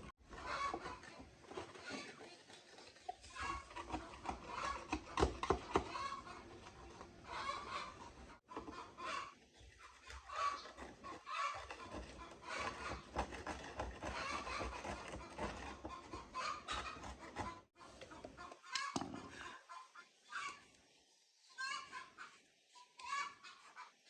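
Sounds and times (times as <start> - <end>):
chickens clucking: 0.0 - 20.8, 21.4 - 24.0.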